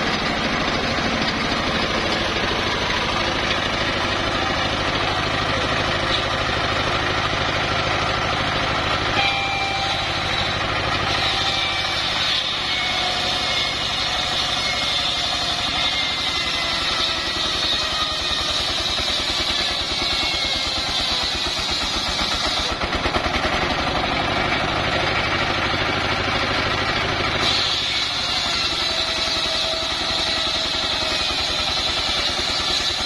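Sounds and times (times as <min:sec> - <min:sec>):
diesel engine chugging: 0:00.0 - 0:33.0
saw blade whine cutting wood: 0:00.0 - 0:33.0.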